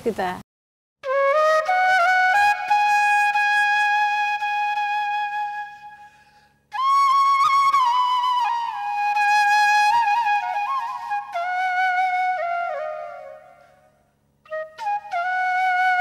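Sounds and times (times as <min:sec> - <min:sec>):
solo flute melody: 0:01.0 - 0:16.0.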